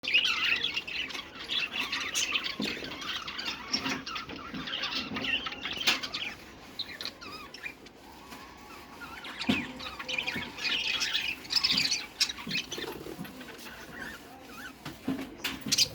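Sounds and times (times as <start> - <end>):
caged birds chirping and squawking: 0.0 - 15.9.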